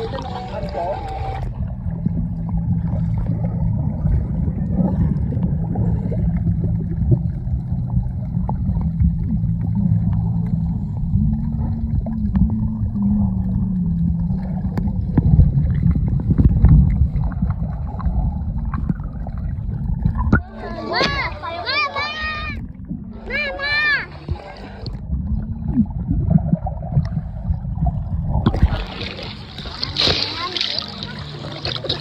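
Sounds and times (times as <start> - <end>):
low rumbling wind: 0.0 - 31.2
boat motor running: 0.0 - 32.0
water noise: 0.0 - 32.0.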